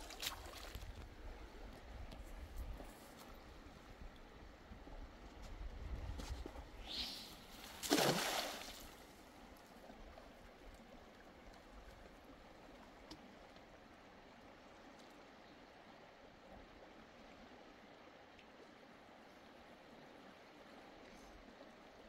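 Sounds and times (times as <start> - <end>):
faint outdoor ambience hiss: 0.0 - 22.0.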